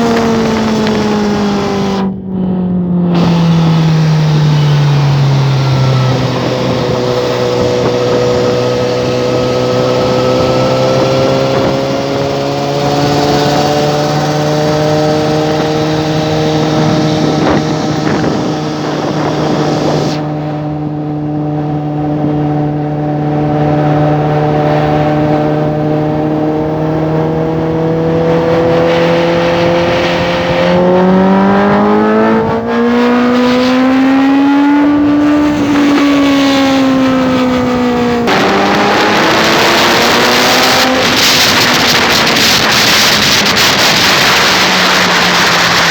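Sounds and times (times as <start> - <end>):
motorcycle engine revving: 0.0 - 45.9
wind rush: 0.0 - 45.9.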